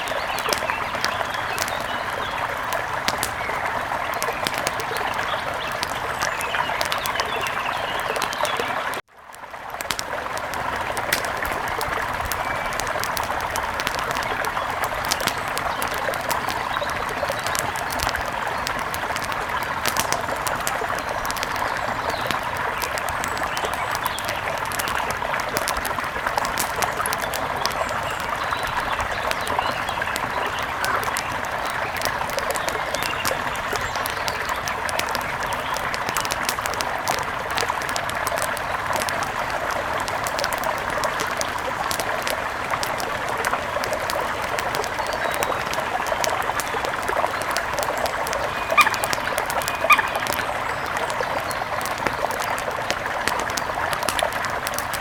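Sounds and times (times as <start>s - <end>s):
sharp crackles: 0.0s - 55.0s.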